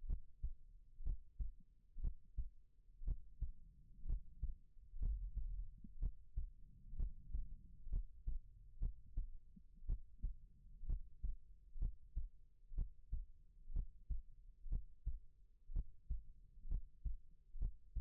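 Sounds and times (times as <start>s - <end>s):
heartbeat thumps: 0.0s - 18.0s
soft low rumble: 0.0s - 18.0s.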